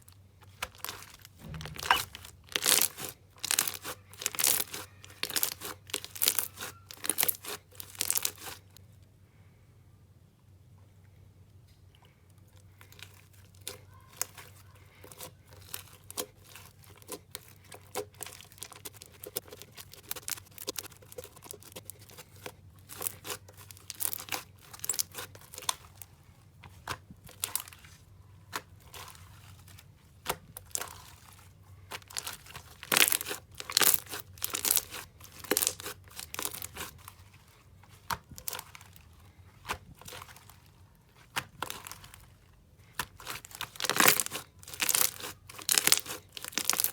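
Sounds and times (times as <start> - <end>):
slime crackling and popping: 0.0 - 8.8, 12.8 - 46.9.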